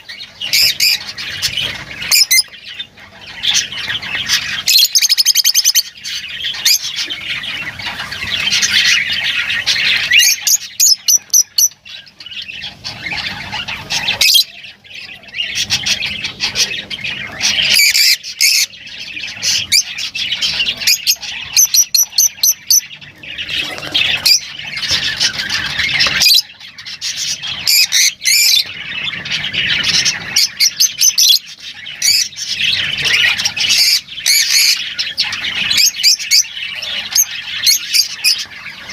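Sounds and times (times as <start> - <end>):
lovebirds chattering and squawking: 0.0 - 38.9
sharp repeated bird chirps: 0.0 - 38.9.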